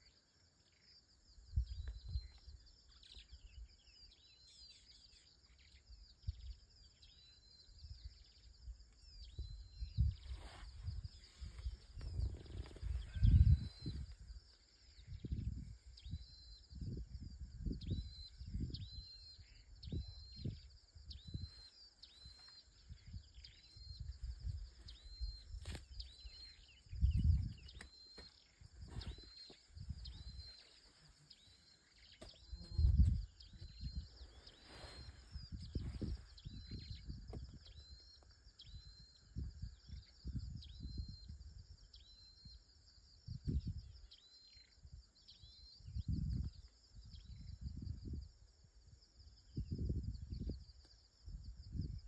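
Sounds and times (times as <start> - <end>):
wind rumbling on microphone: 1.3 - 3.8, 6.0 - 52.0.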